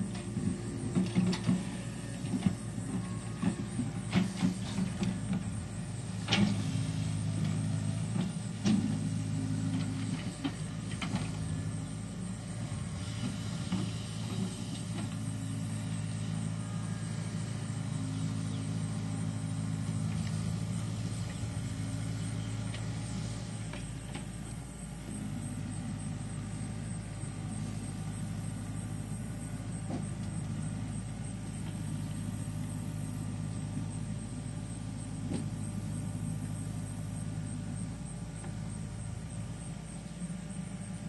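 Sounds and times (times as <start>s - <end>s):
low engine drone: 0.0s - 41.0s.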